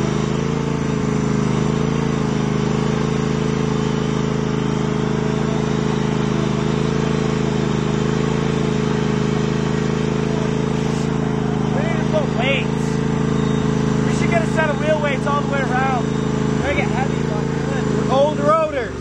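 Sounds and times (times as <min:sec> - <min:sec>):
lawn tractor engine running: 0:00.0 - 0:19.0.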